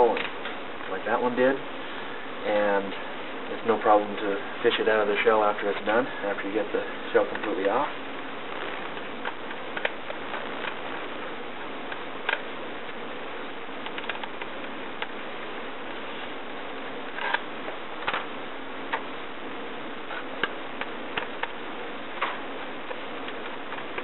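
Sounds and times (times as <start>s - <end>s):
tape hiss: 0.0s - 24.0s.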